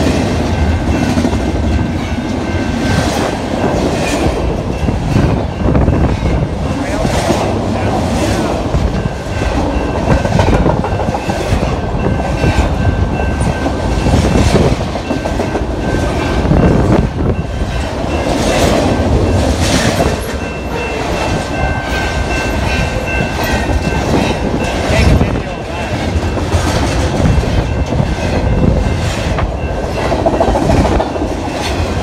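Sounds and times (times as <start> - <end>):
freight train wheels on rails: 0.0 - 32.0.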